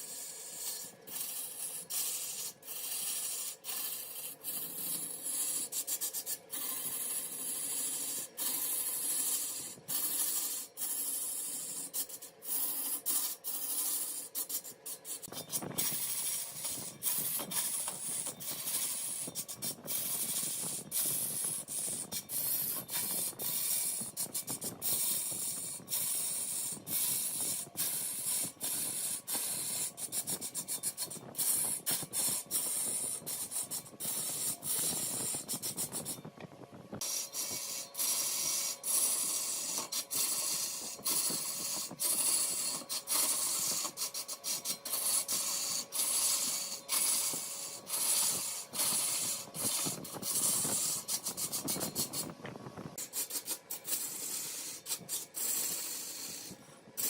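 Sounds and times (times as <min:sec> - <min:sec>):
lathe tool scraping wood: 0:00.0 - 0:36.4, 0:37.0 - 0:57.0.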